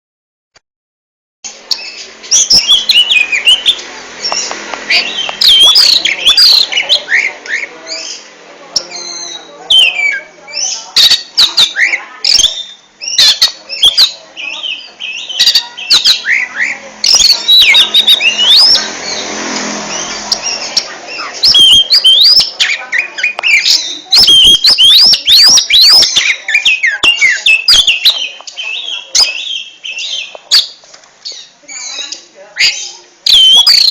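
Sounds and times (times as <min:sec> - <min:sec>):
magpie-robin singing: 0:01.5 - 0:33.9.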